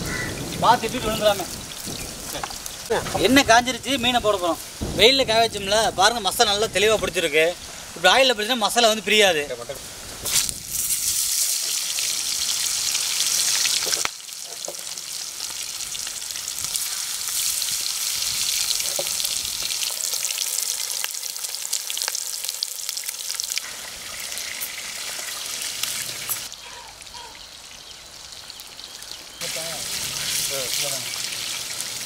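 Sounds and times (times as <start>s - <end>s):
fish deep-frying in oil: 0.1s - 6.6s, 9.9s - 32.0s.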